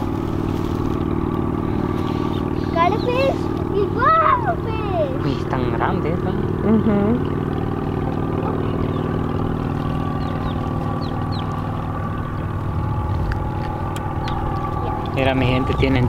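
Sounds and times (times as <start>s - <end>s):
motor hum: 0.0s - 16.0s.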